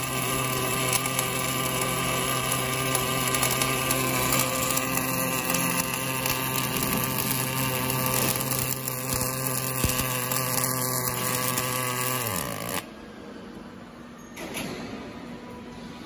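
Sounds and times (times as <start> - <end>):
welding arc crackle: 0.0 - 12.9
welding machine hum: 0.0 - 13.1.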